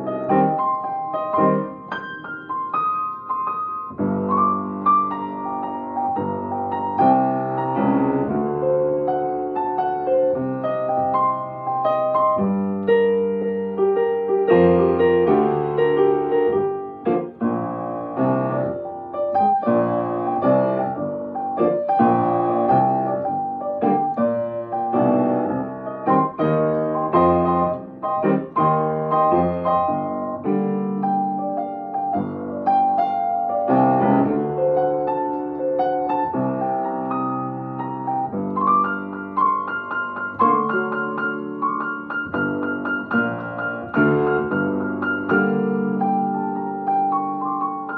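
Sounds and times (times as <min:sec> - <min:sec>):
solo grand piano: 0:00.0 - 0:47.9.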